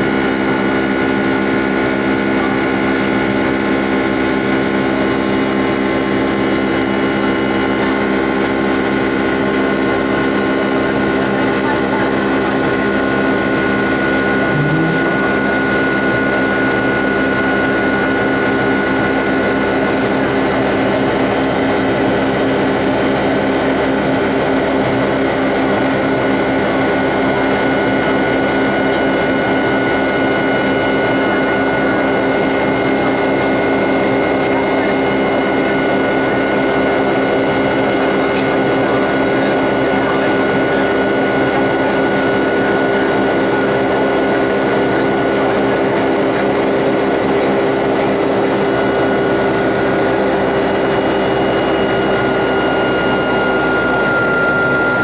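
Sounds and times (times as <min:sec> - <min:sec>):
jet engines inside cabin: 0:00.0 - 0:55.0.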